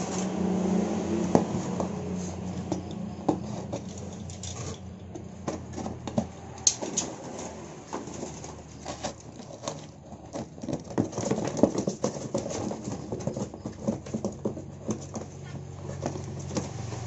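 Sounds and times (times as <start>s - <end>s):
birds scrabbling and fluttering: 0.0s - 17.0s.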